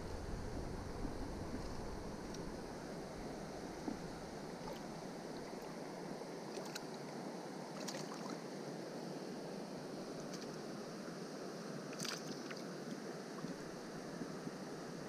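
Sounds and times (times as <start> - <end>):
stream running over stones: 0.0 - 15.0.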